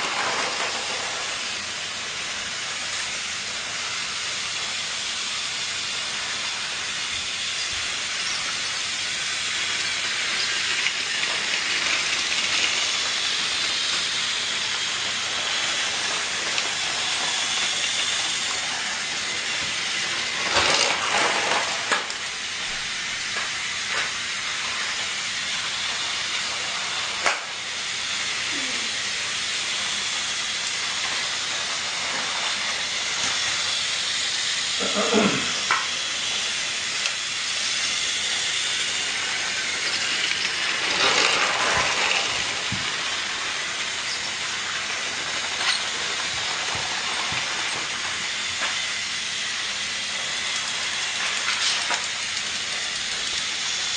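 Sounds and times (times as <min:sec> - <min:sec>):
steady hissing noise: 0:00.0 - 0:53.9.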